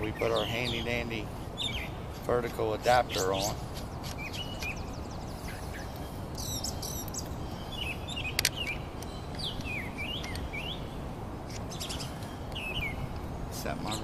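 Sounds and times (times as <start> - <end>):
birds chirping: 0.0 - 14.0
low outdoor background noise: 0.0 - 14.0.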